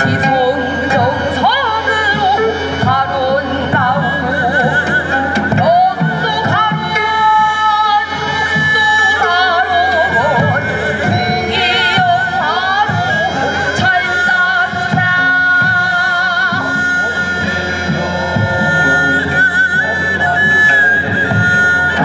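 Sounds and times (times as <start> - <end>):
traditional ensemble melody: 0.0 - 22.0.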